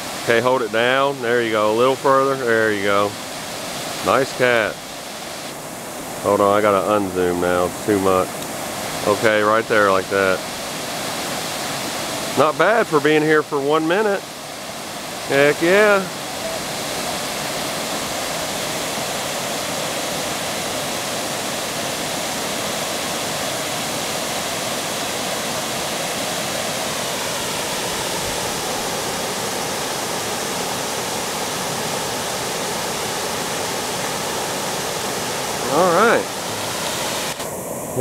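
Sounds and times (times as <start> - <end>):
water pouring over dam: 0.0 - 37.4.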